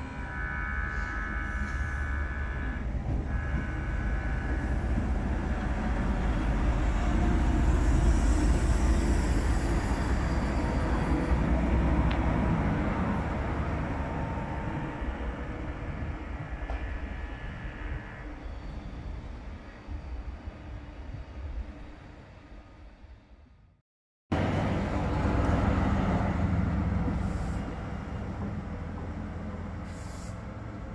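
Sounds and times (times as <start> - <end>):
diesel locomotive engine rumble: 0.0 - 30.9.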